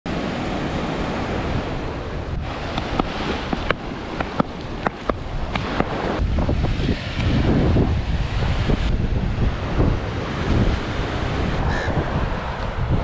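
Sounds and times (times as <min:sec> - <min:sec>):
sea surf washing in: 0:00.1 - 0:13.0
wind buffeting microphone: 0:00.1 - 0:13.0.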